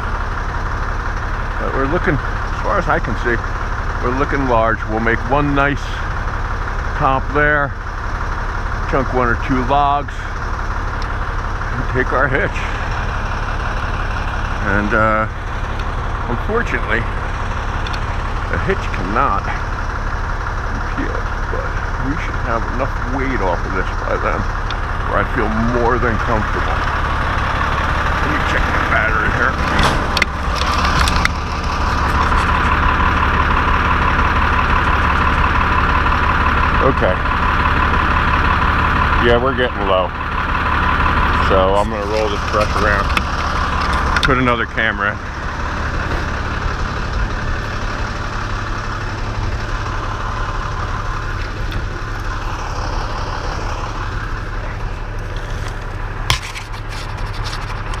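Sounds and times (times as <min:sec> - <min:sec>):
heavy engine idling: 0:00.0 - 0:58.0.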